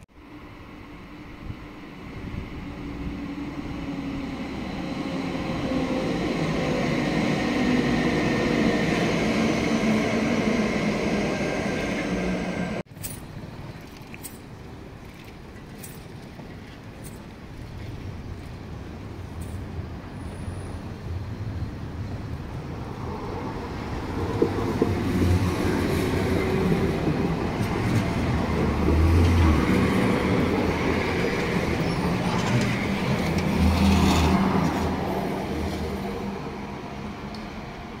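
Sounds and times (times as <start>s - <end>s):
tram electric drive hum: 0.0s - 38.0s
tram wheels rolling on rails: 0.4s - 38.0s.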